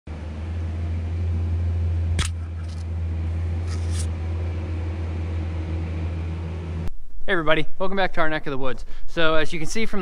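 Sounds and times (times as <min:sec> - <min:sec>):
low hum: 0:00.1 - 0:09.1.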